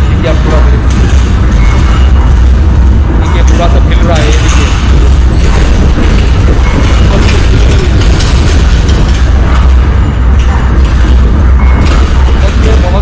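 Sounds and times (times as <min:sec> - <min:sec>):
deep rumble: 0:00.0 - 0:13.0
rattling and clattering: 0:00.0 - 0:13.0.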